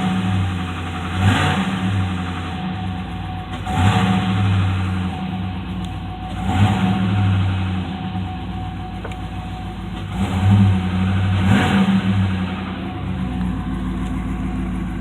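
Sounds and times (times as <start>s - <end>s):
car engine idling and revving: 0.0s - 15.0s
engine knock: 0.0s - 15.0s.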